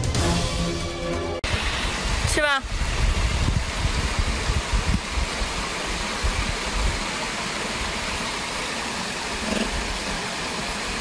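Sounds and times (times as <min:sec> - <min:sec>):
steady rushing outdoor noise: 0:01.4 - 0:11.0.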